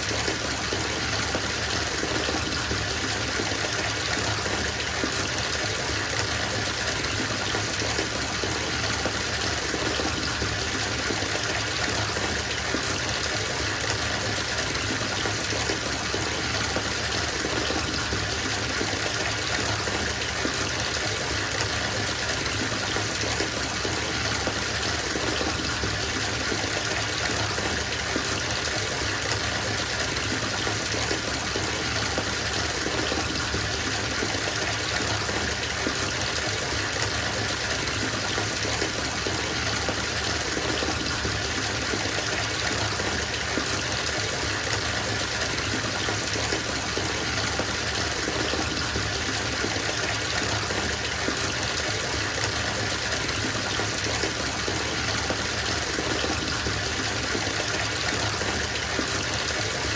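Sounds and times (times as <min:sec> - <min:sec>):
water pouring into bathtub: 0:00.0 - 0:59.9.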